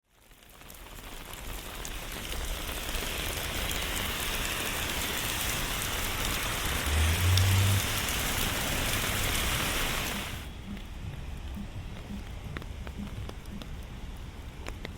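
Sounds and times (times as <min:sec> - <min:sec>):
steady rain hiss: 0:00.1 - 0:14.9.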